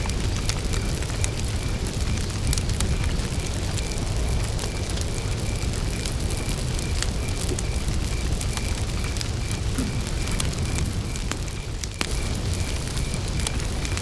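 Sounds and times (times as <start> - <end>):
campfire crackling and popping: 0.0 - 14.0
faint cricket chirping: 0.0 - 14.0.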